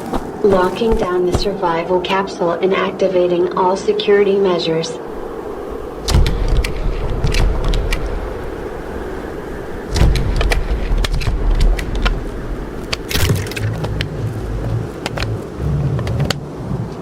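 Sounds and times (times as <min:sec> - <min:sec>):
steady hum: 0:00.0 - 0:16.8
blizzard wind gusts: 0:00.0 - 0:17.0.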